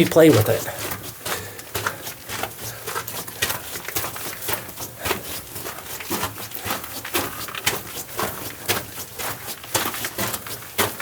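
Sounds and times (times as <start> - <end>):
rock and dirt crumbling: 0.0 - 11.0.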